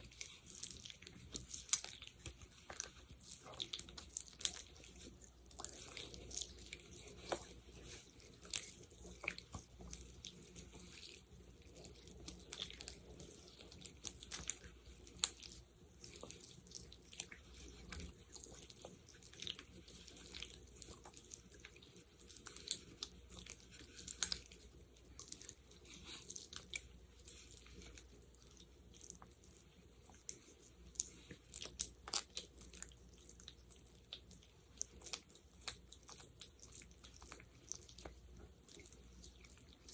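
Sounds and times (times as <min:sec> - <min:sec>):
wet gel crackling and clicking: 0:00.0 - 0:27.0, 0:31.0 - 0:39.8.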